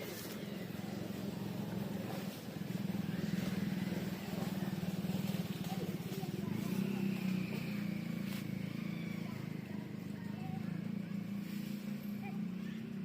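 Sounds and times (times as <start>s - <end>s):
small engine pulsing drone: 0.0s - 13.0s.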